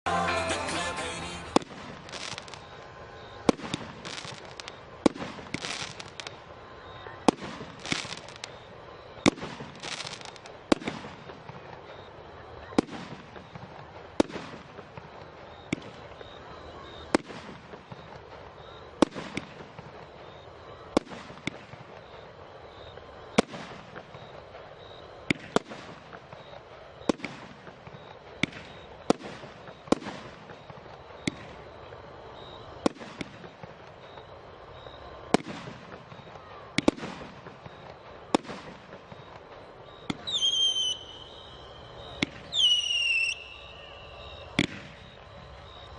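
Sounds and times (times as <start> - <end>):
fireworks bangs: 0.1 - 45.9
fireworks high whistles: 0.1 - 45.9.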